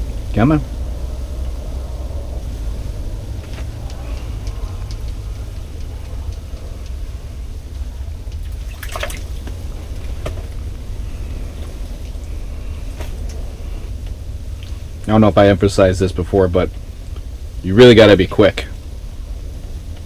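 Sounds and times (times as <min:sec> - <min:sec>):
low rumble: 0:00.0 - 0:20.0
water dripping: 0:01.2 - 0:18.9.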